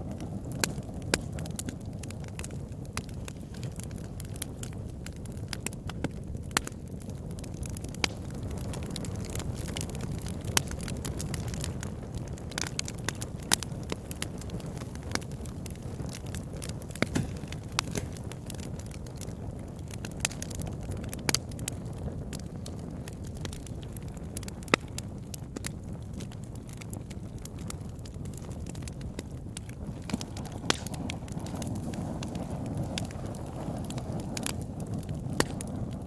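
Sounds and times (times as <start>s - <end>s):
campfire burning: 0.0s - 36.0s.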